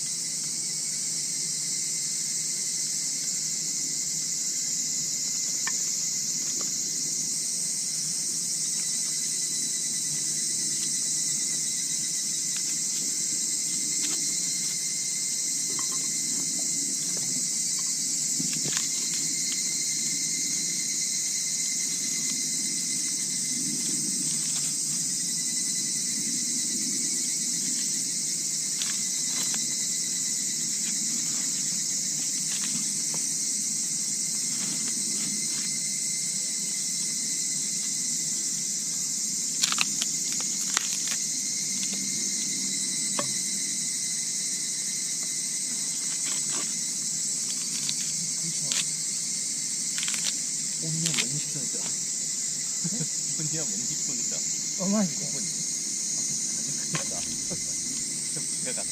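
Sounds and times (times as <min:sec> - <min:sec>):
crickets and night insects trilling: 0:00.0 - 0:58.9.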